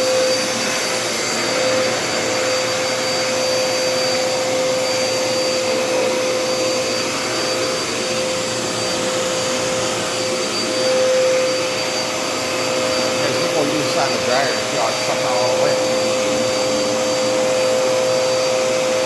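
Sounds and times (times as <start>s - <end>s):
cordless vacuum running: 0.0s - 19.0s.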